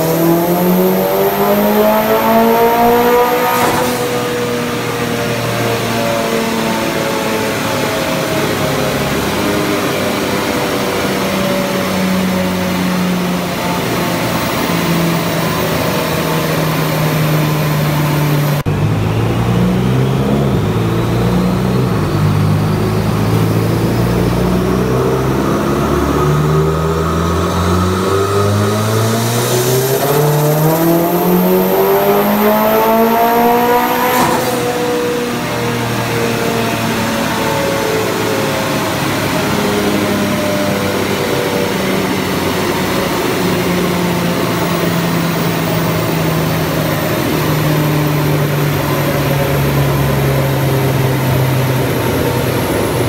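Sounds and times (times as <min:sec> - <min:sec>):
car engine revving under load: 0:00.0 - 0:10.3, 0:10.9 - 0:53.0.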